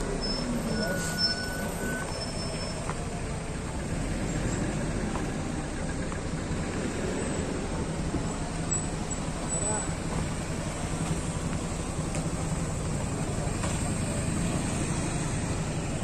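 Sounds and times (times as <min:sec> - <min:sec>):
road and traffic noise: 0:00.0 - 0:16.0
vehicle engines rumbling: 0:00.0 - 0:16.0.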